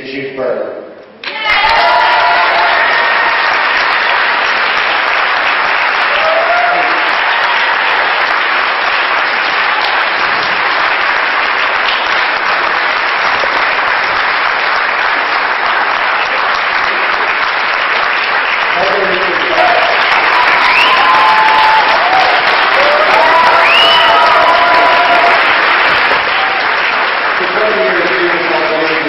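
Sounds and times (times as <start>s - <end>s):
large audience applauding: 1.2s - 29.0s.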